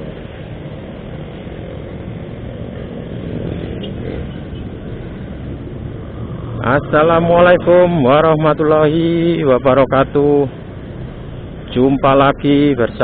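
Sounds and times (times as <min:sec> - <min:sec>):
city traffic: 0:00.0 - 0:13.0.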